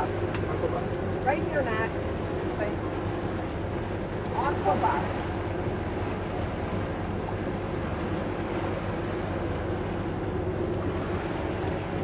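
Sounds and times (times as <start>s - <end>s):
boat engine droning: 0.0s - 12.0s
water wash: 0.0s - 12.0s.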